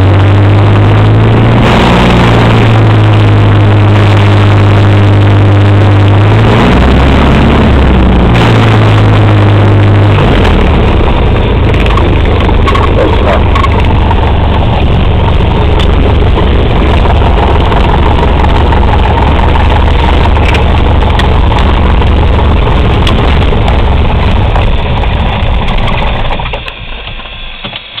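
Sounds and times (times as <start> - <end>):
propeller plane engine running: 0.0 - 28.0.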